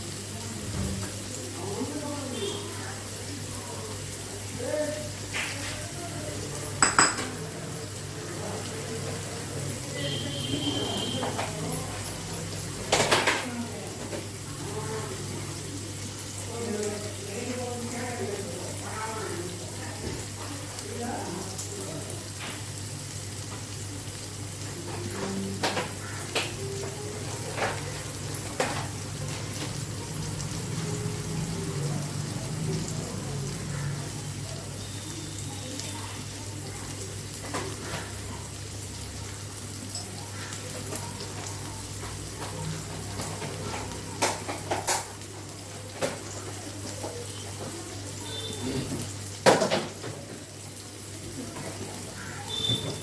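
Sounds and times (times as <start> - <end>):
shallots sizzling in oil: 0.0 - 53.0.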